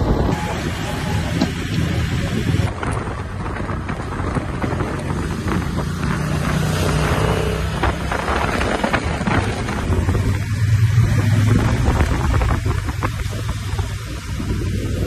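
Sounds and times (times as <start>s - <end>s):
motorcycle engines running: 0.0s - 15.0s
wind rushing over microphone: 0.0s - 15.0s.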